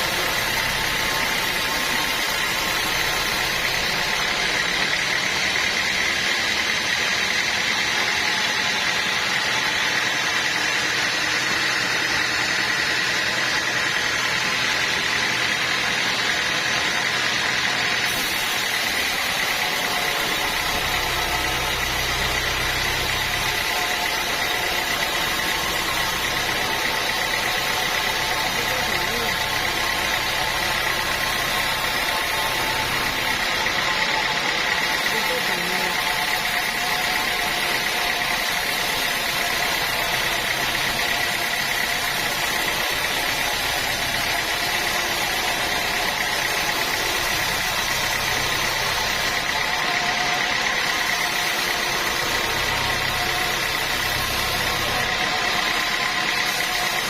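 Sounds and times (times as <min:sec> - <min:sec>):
sawmill saw whining: 0:00.0 - 0:57.0.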